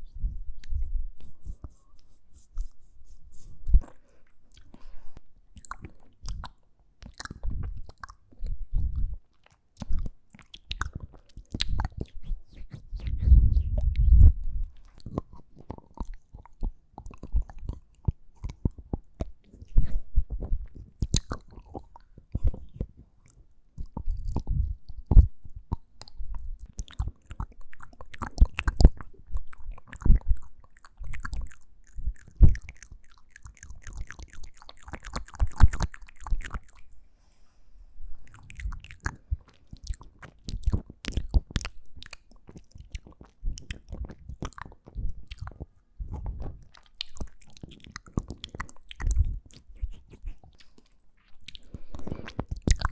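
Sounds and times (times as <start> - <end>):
wet lip and tongue clicks: 0.6 - 1.8, 2.4 - 4.9, 5.5 - 36.9, 38.2 - 52.9.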